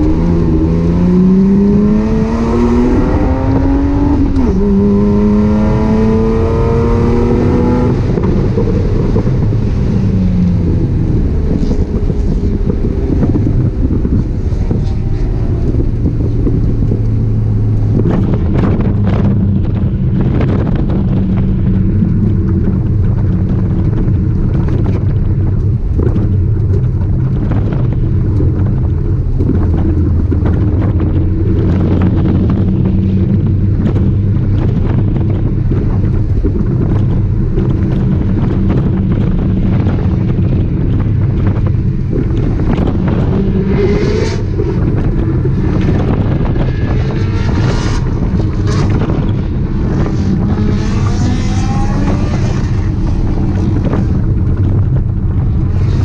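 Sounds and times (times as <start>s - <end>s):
car engine revving: 0.0s - 56.0s
road and wind noise: 0.0s - 56.0s.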